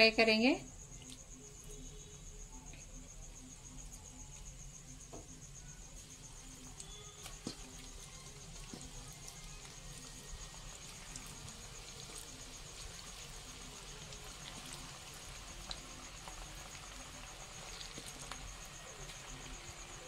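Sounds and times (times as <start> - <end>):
oil sizzling with crackles: 0.7 - 20.0.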